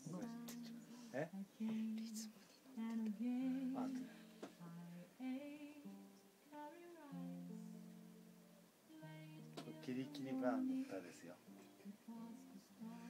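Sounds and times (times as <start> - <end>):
person singing slow melody: 0.0 - 8.1, 8.9 - 13.0.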